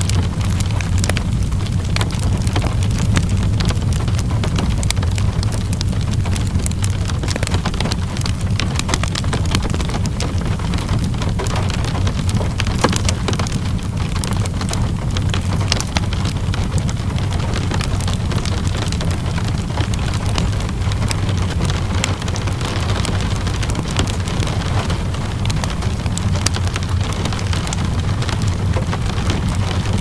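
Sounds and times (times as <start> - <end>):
steady rainfall: 0.0 - 30.0
wood fire crackling: 0.0 - 30.0.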